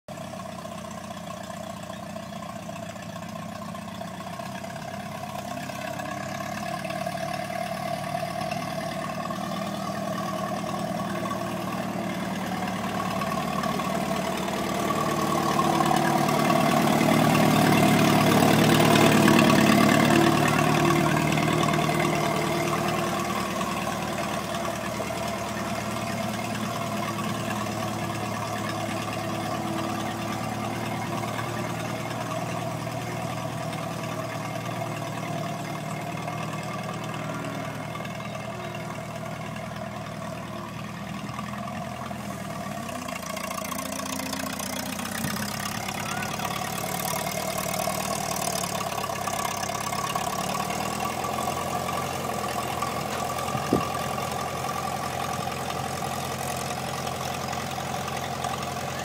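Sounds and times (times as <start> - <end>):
tractor engine driving past: 0.1 - 59.0.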